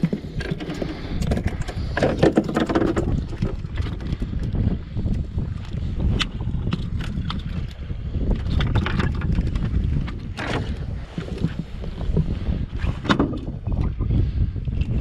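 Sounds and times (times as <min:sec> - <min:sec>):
knocks and rustles handling fish: 0:00.0 - 0:04.6, 0:05.5 - 0:14.0
wind buffeting microphone: 0:00.0 - 0:15.0.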